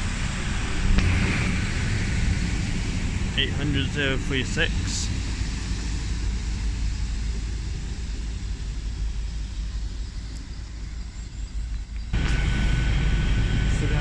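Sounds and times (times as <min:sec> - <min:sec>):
diesel train engine rumble: 0:00.0 - 0:14.0.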